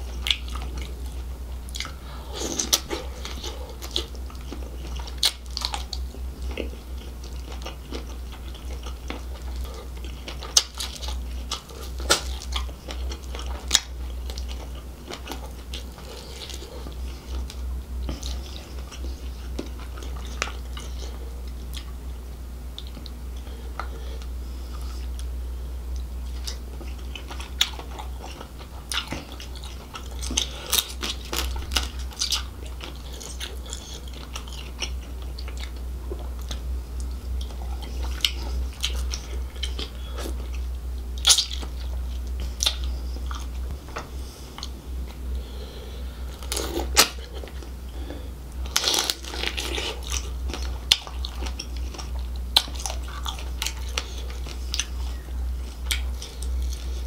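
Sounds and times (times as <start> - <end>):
close chewing and crunching: 0.0 - 57.0
steady low hum: 0.0 - 57.0.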